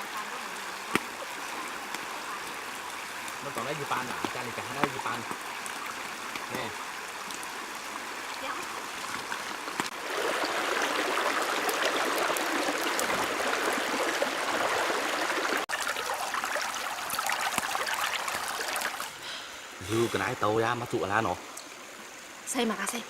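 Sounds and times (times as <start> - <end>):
stream water trickling: 0.0 - 23.0.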